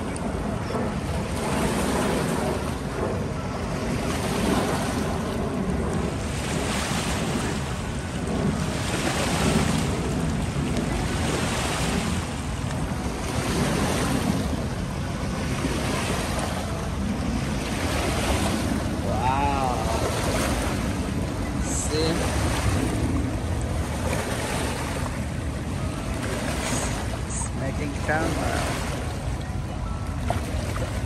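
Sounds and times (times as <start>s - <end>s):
small waves washing on shore: 0.0s - 31.0s
wind rumbling on microphone: 0.0s - 31.0s.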